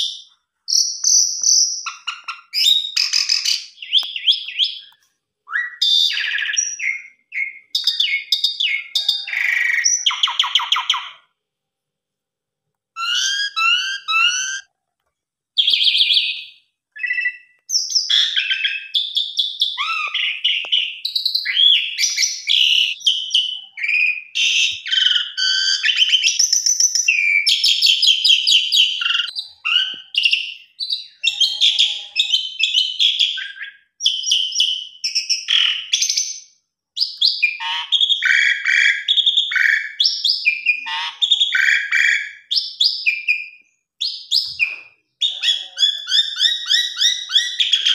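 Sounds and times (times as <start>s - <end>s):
starling singing: 0.0s - 11.3s, 13.0s - 14.7s, 15.6s - 47.9s.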